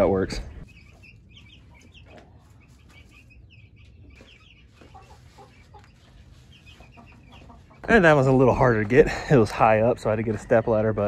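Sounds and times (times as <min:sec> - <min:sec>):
chickens clucking softly: 0:00.0 - 0:11.0
chicks peeping: 0:00.0 - 0:11.0.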